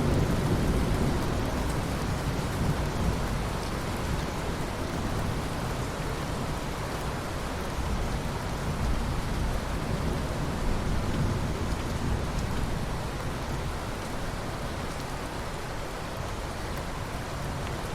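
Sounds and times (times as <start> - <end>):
heavy rain on vegetation: 0.0 - 17.9.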